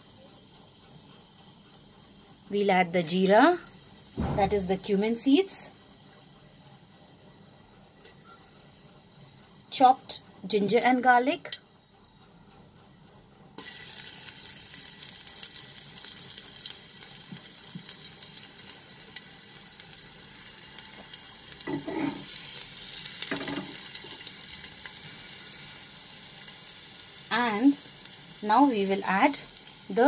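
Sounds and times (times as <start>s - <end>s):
garlic sizzling in hot oil: 0.0s - 11.6s, 13.6s - 30.0s.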